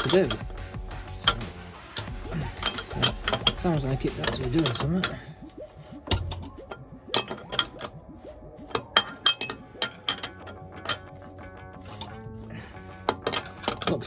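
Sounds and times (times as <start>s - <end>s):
spanner clinking on metal: 0.0s - 5.3s, 6.1s - 8.0s, 8.7s - 14.0s.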